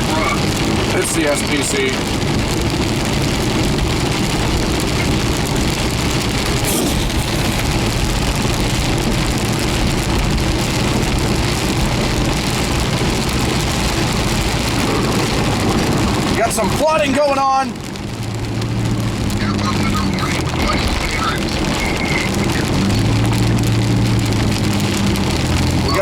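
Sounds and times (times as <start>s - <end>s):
car engine hum: 0.0s - 26.0s
heavy rain on car: 0.0s - 26.0s
tyres on wet road: 0.0s - 26.0s.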